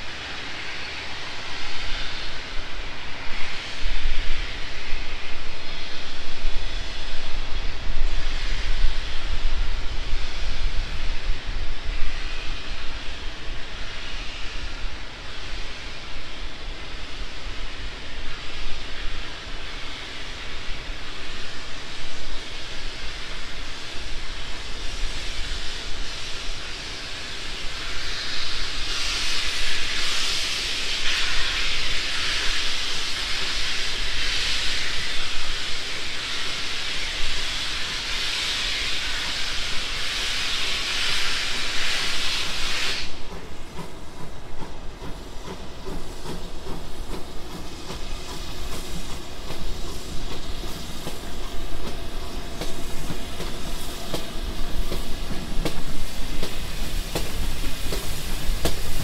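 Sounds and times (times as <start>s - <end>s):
steam locomotive rumble: 0.0s - 59.0s
steam rushing: 0.0s - 59.0s.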